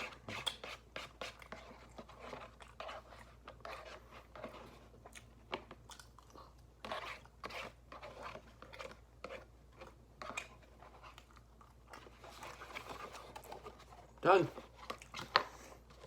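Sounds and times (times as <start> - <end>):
person chewing food: 0.0 - 14.2, 14.8 - 16.0.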